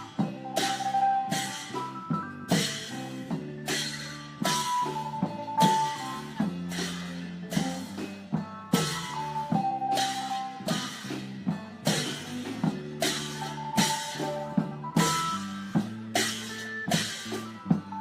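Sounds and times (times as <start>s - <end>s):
held melody line: 0.0s - 18.0s
long drums beating: 0.0s - 18.0s.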